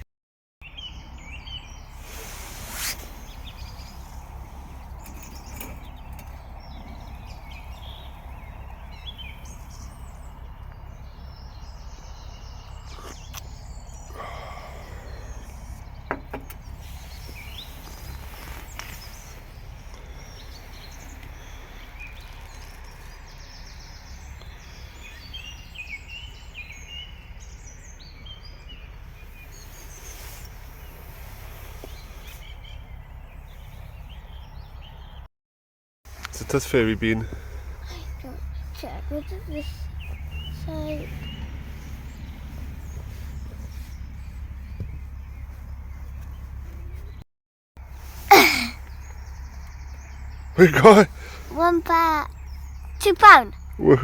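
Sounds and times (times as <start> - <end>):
small birds chirping: 0.6 - 35.3, 36.1 - 47.2, 47.8 - 54.0.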